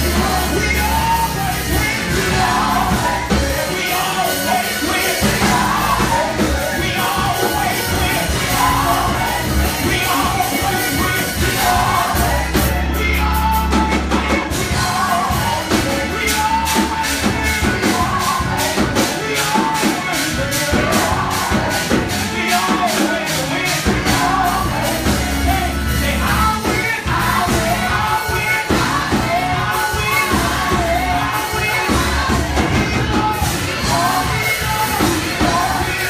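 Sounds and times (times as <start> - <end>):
heavy bass: 0.0 - 19.6, 20.4 - 36.0
drums: 0.0 - 36.0
voices singing gospel: 0.0 - 36.0.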